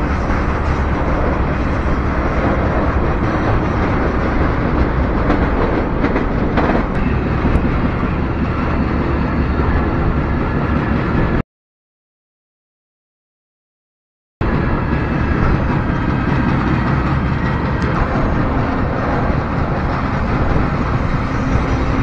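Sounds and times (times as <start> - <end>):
freight train rumbling: 0.0 - 11.4, 14.4 - 22.0.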